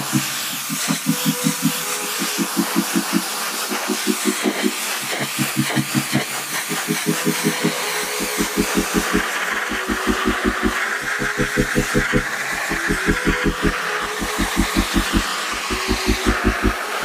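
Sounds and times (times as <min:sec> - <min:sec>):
music with pulsing bass: 0:00.0 - 0:17.0
pressure washer spray hissing: 0:00.0 - 0:17.0.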